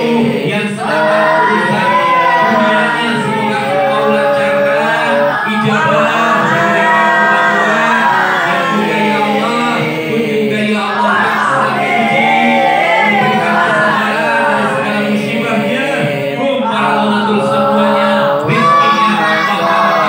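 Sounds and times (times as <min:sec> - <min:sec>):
man chanting through loudspeaker: 0:00.0 - 0:20.0
voices joining chant: 0:00.0 - 0:20.0.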